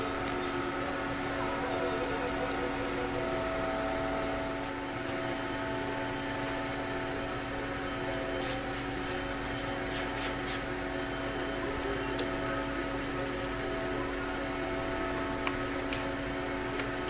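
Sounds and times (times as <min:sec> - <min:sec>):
mechanical drone: 0:00.0 - 0:17.0.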